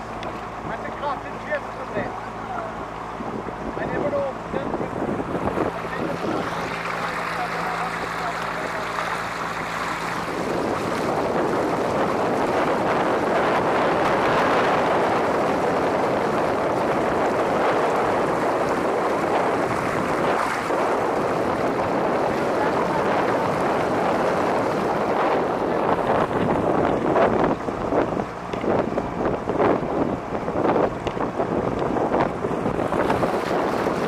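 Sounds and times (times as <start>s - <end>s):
boat motor running: 0.0s - 34.0s
wind and water rushing: 0.0s - 34.0s.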